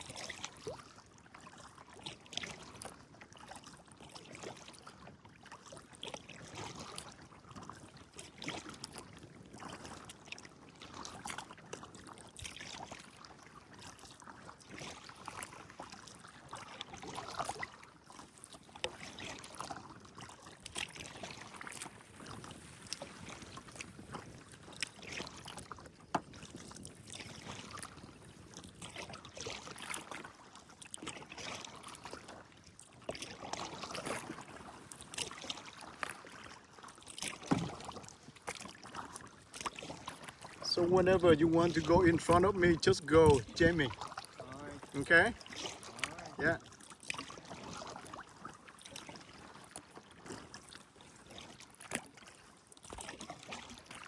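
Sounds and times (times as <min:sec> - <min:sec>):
paddle splashing in water: 0:00.0 - 0:54.0
water trickling off paddle: 0:00.0 - 0:54.0.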